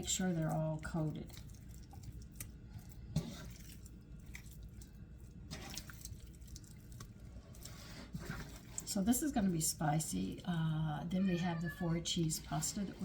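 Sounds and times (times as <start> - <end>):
wet squishing and dripping: 0.0 - 10.7.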